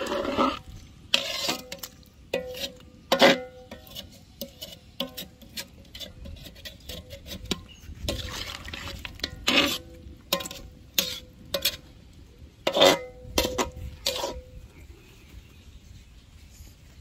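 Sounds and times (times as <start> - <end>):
metal spatula scraping pot: 0.0 - 14.6.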